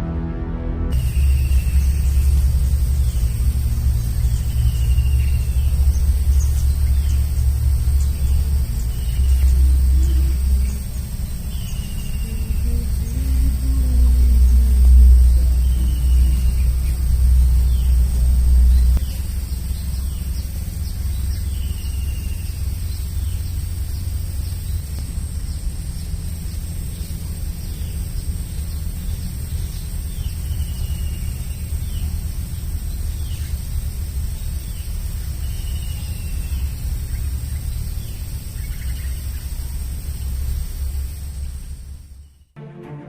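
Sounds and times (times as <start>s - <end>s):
low rumble: 0.0s - 43.0s
bird chirping: 0.9s - 42.6s.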